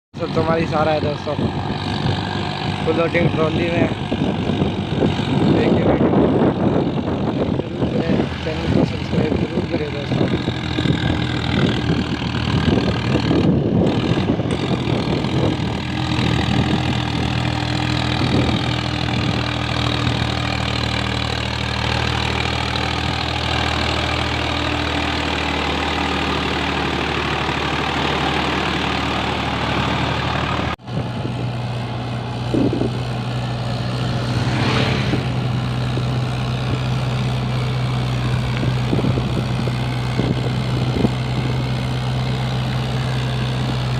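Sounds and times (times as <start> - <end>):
diesel tractor engine running: 0.1 - 43.9
second tractor engine: 0.1 - 43.9.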